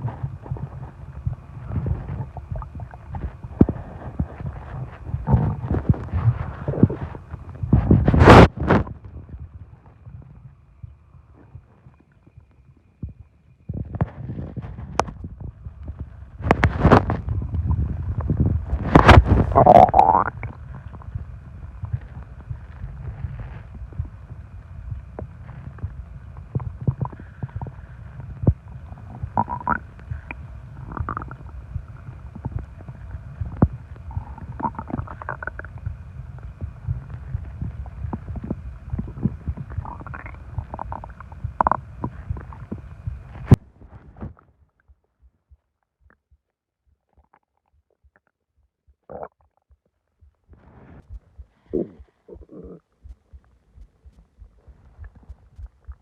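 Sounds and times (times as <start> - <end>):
stomach gurgling squeaks: 0.0 - 45.0, 47.0 - 56.0
stomach growling: 0.0 - 56.0.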